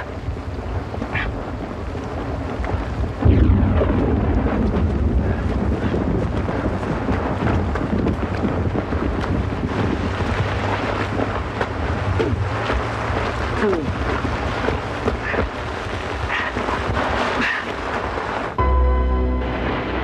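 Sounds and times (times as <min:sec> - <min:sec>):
heavy rain downpour: 0:00.0 - 0:20.0
low rumble: 0:00.0 - 0:20.0.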